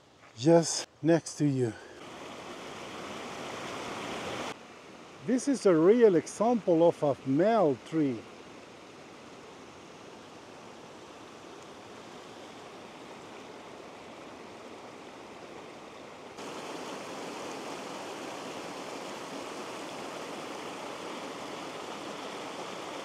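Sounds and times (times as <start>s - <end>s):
creek rushing over rocks: 2.0s - 8.4s, 10.9s - 23.0s.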